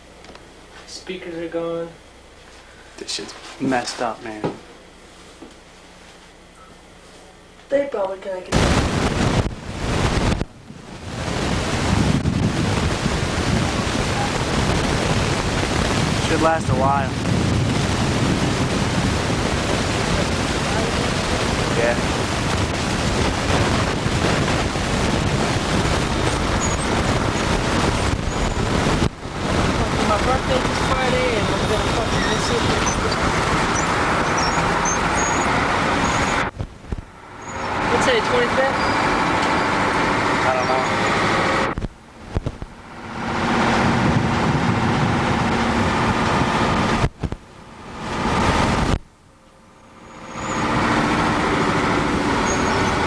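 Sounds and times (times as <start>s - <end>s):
motor vehicle running: 8.5s - 49.1s, 49.8s - 53.0s
wind noise on microphone: 8.5s - 49.1s, 50.2s - 53.0s.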